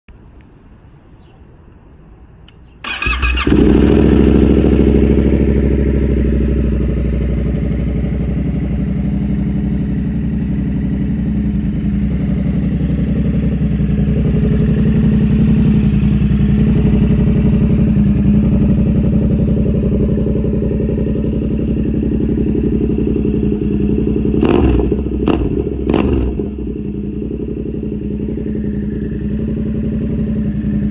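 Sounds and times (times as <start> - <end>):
motorcycle engine starting and idling: 2.4 - 30.9.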